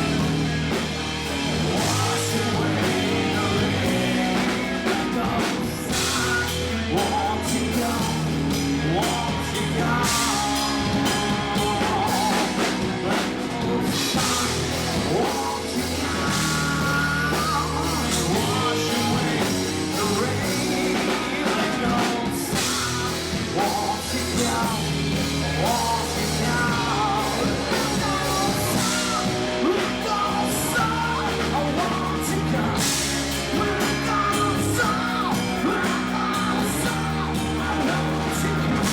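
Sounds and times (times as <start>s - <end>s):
drums: 0.0s - 38.9s
electric guitars: 0.0s - 38.9s
person singing: 0.0s - 38.9s.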